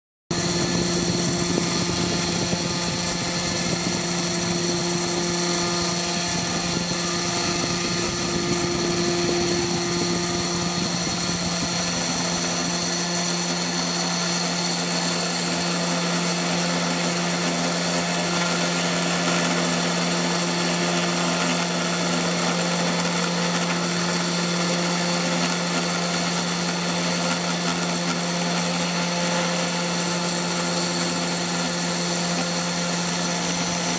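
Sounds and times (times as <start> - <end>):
spindle motor hum and whine: 0.3 - 33.9.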